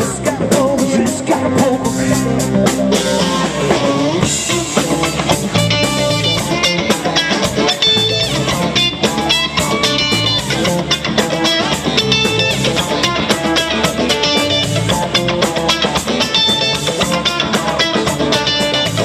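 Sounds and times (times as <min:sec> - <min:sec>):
bass: 0:00.0 - 0:19.0
drum kit beat: 0:00.0 - 0:19.0
electric guitars: 0:00.0 - 0:19.0.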